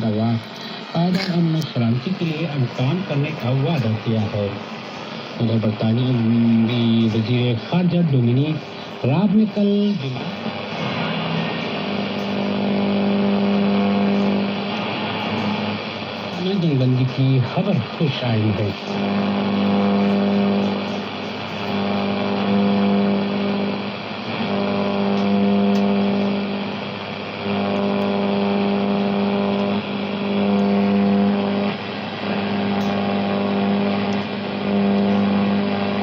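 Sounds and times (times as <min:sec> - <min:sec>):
radio loudspeaker droning tone: 0:00.0 - 0:36.0.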